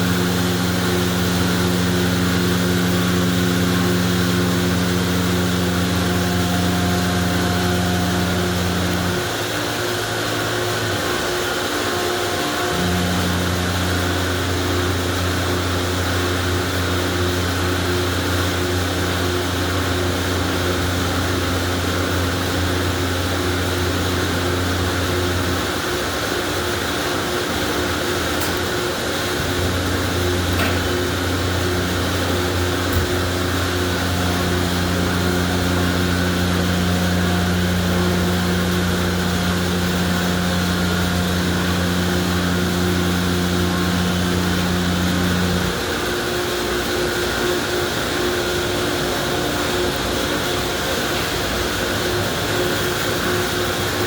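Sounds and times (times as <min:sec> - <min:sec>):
pump motor hum: 0:00.0 - 0:54.0.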